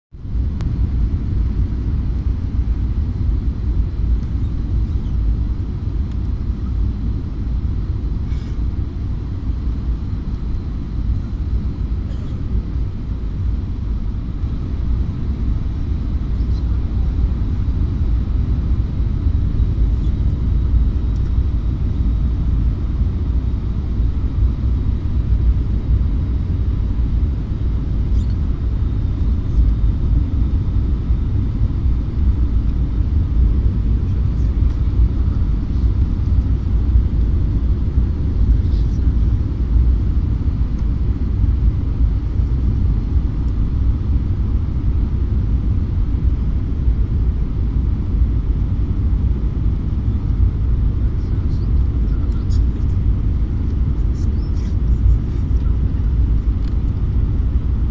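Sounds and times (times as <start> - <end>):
aircraft cabin engine rumble: 0.2 - 57.9.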